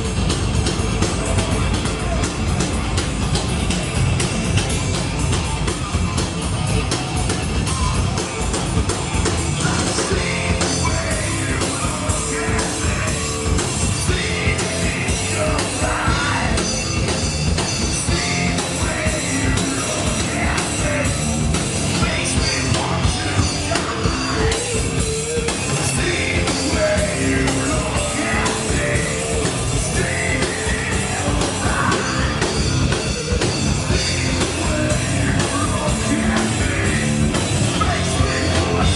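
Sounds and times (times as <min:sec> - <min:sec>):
live metal band playing: 0:00.0 - 0:38.9.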